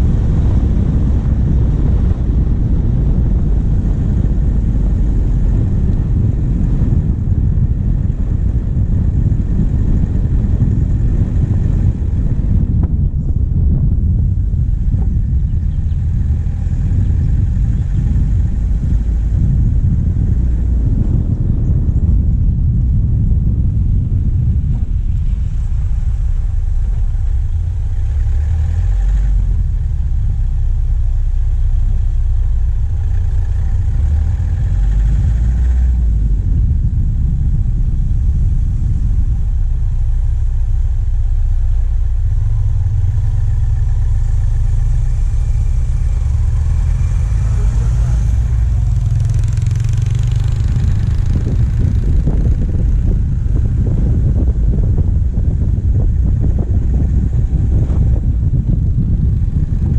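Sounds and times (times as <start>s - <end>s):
diesel engine rumbling: 0.0s - 59.9s
road noise: 0.0s - 59.9s.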